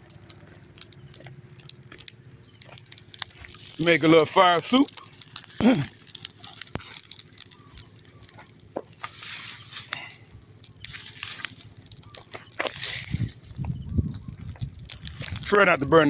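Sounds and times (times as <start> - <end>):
burning leaves hissing: 0.0 - 16.0
leaf fire crackling and popping: 0.0 - 16.0
stick stirring fire: 0.0 - 16.0.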